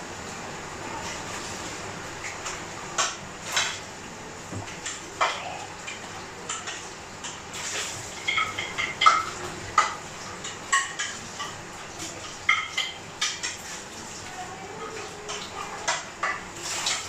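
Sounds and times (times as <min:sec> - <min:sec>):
dishes clinking and clattering: 0:02.2 - 0:03.9, 0:04.5 - 0:17.0.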